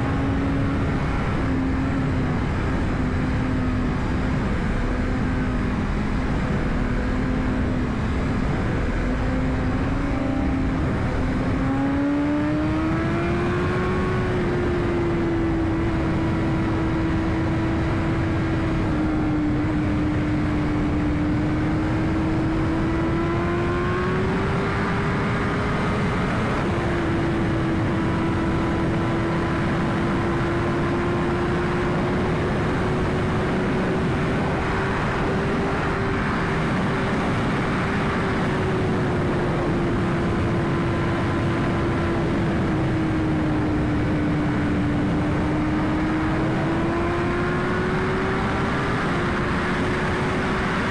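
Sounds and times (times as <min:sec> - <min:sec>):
motorcycle engine cruising: 0:00.0 - 0:50.9
wind noise: 0:00.0 - 0:50.9.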